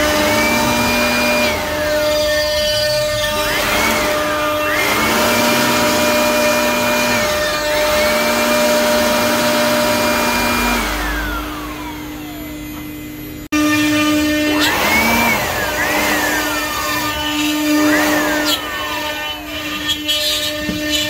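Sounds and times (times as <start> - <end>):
power tool motor whine: 0.0 - 21.0.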